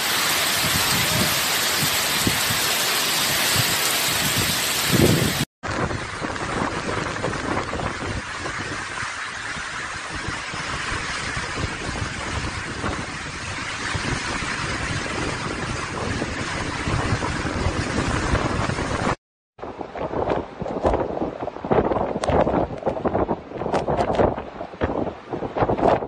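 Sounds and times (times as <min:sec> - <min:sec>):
wind gusts buffeting microphone: 0:00.0 - 0:26.0.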